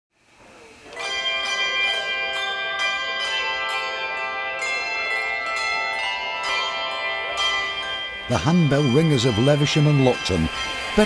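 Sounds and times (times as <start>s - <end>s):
handbells ringing a tune: 0.9s - 11.0s.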